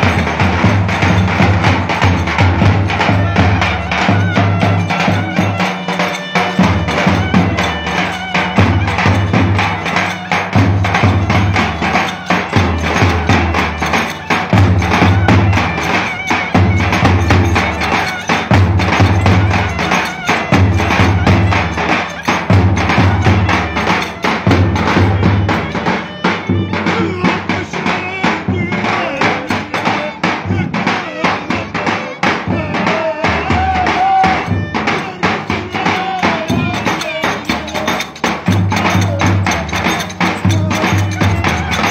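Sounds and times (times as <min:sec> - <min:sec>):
drum beating fast rhythm: 0:00.0 - 0:41.9
folk dance music melody: 0:00.0 - 0:41.9.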